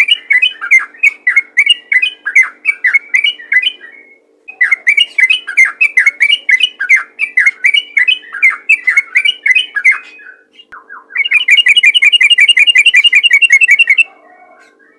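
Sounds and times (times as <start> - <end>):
bird singing rapid chirps: 0.0 - 14.1
faint steady hum: 0.0 - 14.9.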